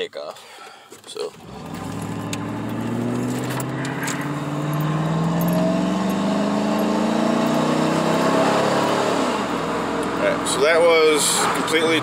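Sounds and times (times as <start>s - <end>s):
truck engine revving: 1.4s - 12.0s.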